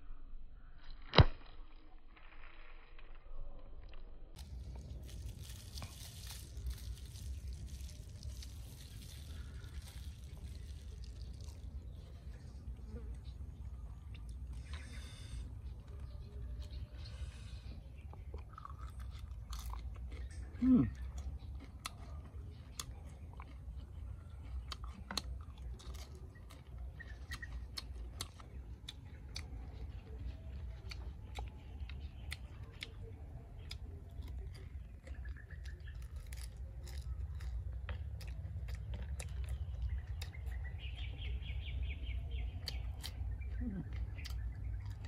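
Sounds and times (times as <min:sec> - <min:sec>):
person crunching fried shrimp: 0:04.4 - 0:15.4, 0:18.0 - 0:41.0, 0:42.3 - 0:45.0.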